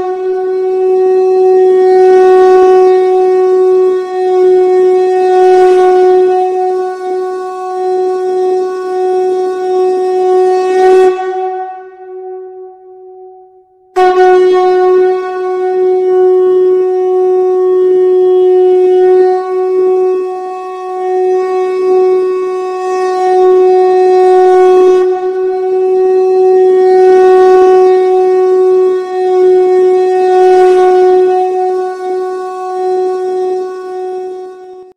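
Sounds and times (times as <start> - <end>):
conch shell blast: 0.0 - 8.6, 14.0 - 34.9.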